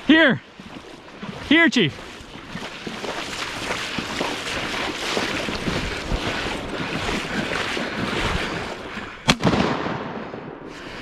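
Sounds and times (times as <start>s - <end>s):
river water rushing: 0.0s - 9.2s.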